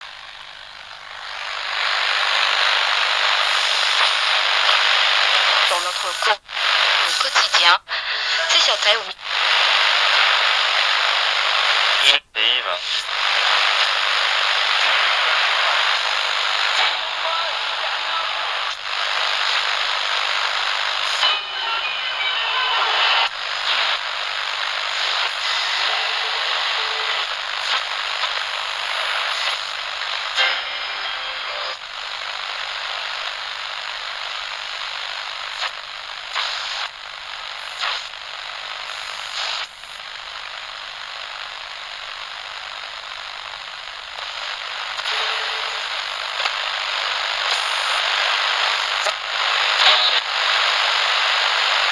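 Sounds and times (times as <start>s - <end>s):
radio static hiss and crackles: 0.0s - 51.9s.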